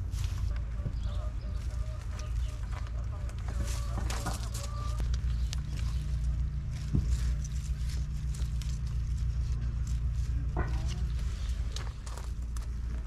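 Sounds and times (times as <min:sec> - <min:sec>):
low rumble: 0:00.0 - 0:13.0
plant and soil rustling: 0:00.0 - 0:13.0.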